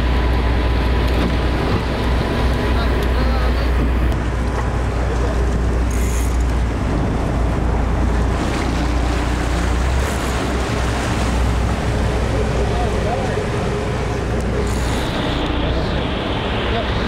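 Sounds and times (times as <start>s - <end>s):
boat engine low rumble: 0.0s - 17.0s
water washing: 0.0s - 17.0s.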